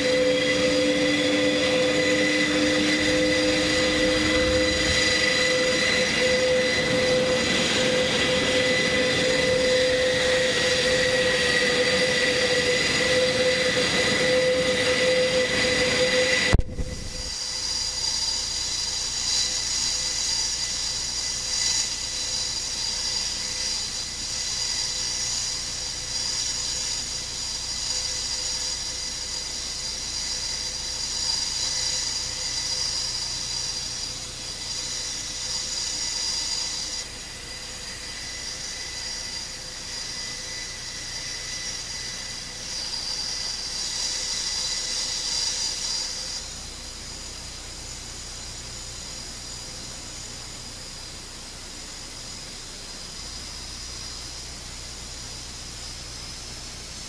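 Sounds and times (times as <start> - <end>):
turboprop engines whining: 0.0 - 57.0.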